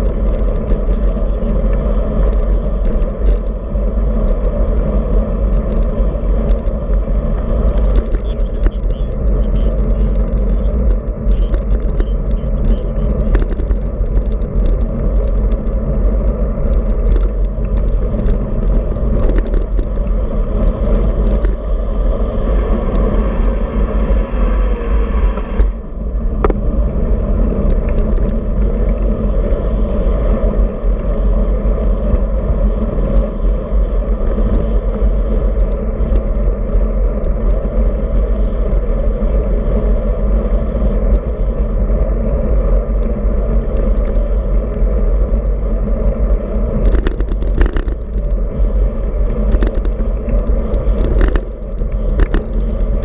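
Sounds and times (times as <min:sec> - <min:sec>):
bike rattling over bumps: 0:00.0 - 0:53.0
tyre and road rumble: 0:00.0 - 0:53.0
wind buffeting microphone: 0:00.0 - 0:53.0.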